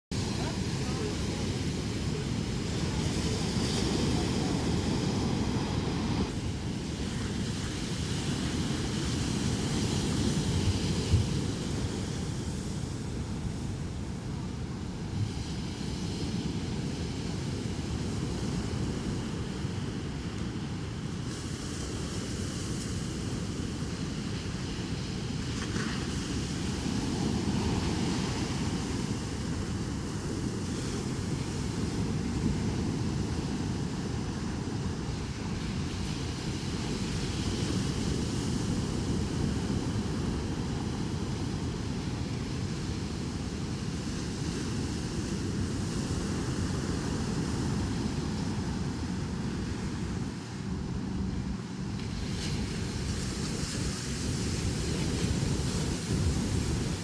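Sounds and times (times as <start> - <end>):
ocean waves breaking: 0.1 - 57.0
wind buffeting microphone: 0.1 - 57.0.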